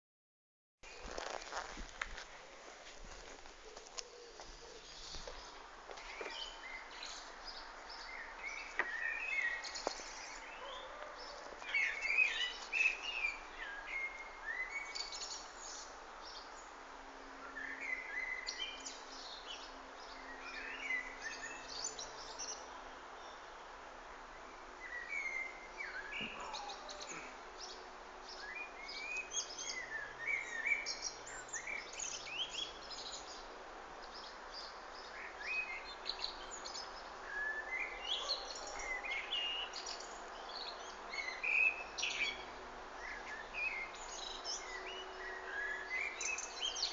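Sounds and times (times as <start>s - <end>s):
songbirds chirping: 0.8s - 46.9s.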